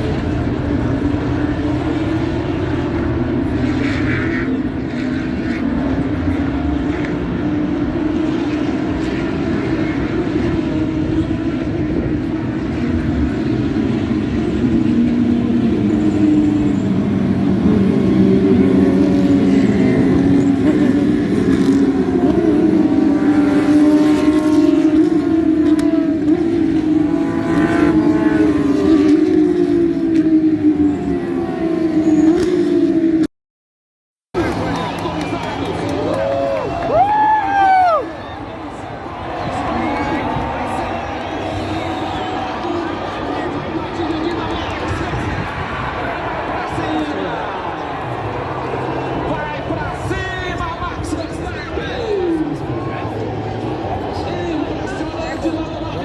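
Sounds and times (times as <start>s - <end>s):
racing car engines droning: 0.0s - 33.3s, 34.3s - 56.0s.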